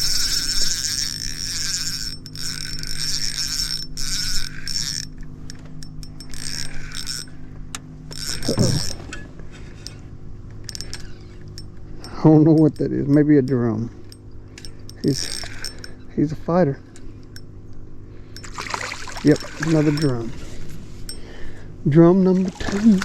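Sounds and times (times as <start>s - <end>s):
fishing reel whirring: 0.0s - 17.5s, 18.3s - 23.0s
steady low hum: 0.0s - 23.0s.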